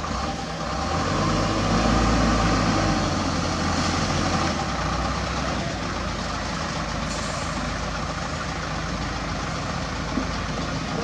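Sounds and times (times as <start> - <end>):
truck diesel engine passing: 0.0 - 11.0.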